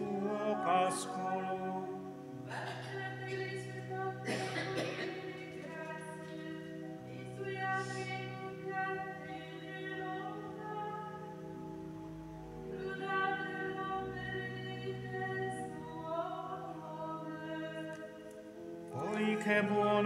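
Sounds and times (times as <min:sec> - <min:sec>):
voices singing a psalm chant: 0:00.0 - 0:11.3, 0:12.7 - 0:18.3, 0:18.9 - 0:20.0.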